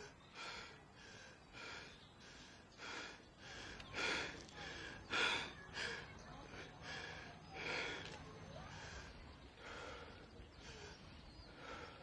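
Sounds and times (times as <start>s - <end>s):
person breathing hard: 0.0s - 12.0s.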